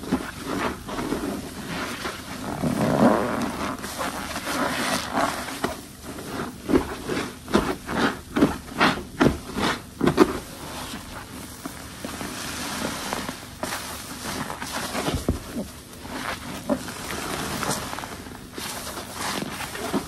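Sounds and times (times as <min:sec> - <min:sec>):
sponge squelching: 0:00.1 - 0:20.0.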